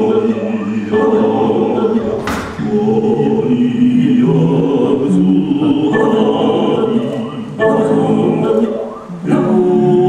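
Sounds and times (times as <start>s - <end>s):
choir singing long notes: 0.0s - 10.0s.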